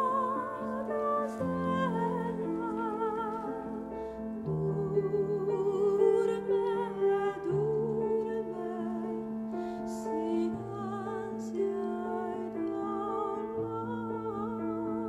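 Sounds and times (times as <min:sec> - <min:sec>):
slow operatic music: 0:00.0 - 0:15.0.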